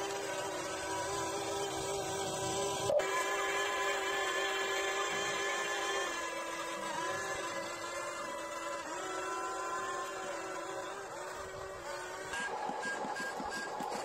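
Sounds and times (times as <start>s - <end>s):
toy excavator motors whining: 0.0s - 14.0s.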